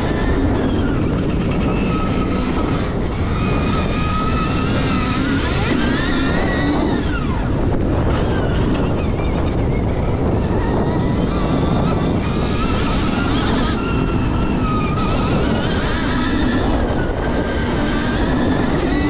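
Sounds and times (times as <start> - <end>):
electric motor whining: 0.0 - 19.0
wind rush on microphone: 0.0 - 19.0.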